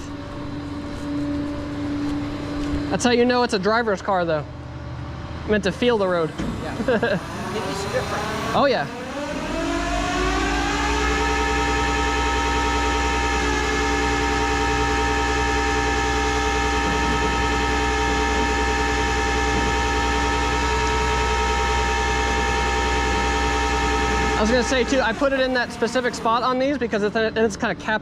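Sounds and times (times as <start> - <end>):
hydraulic winch whining: 4.5 - 27.7.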